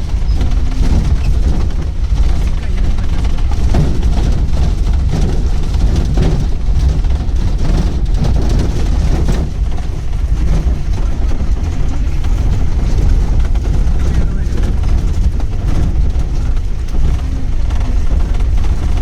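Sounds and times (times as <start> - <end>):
vehicle body rattling and knocking: 0.0 - 19.0
vehicle engine rumbling: 0.0 - 19.0.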